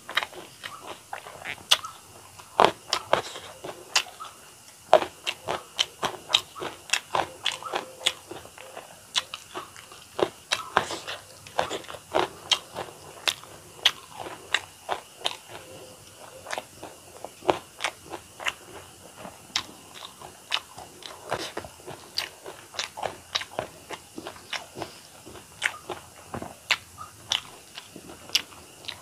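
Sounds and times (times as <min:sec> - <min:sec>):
chewing with wet mouth clicks: 0:00.1 - 0:29.0.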